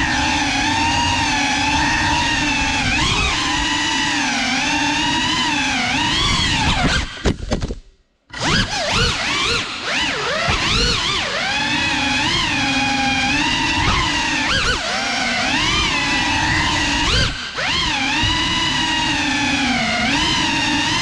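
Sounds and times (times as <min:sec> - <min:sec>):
drone propellers whining: 0:00.0 - 0:07.3, 0:08.3 - 0:21.0.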